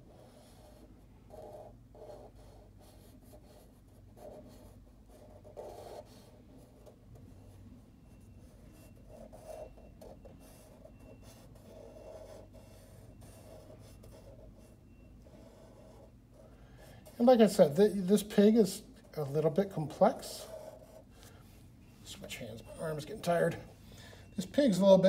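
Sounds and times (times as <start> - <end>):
marker scratching on paper: 0.1 - 18.4, 19.0 - 21.4.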